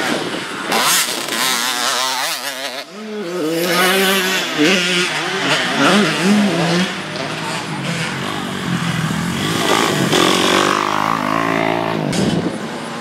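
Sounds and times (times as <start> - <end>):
dirt bike engine revving: 0.0 - 12.5.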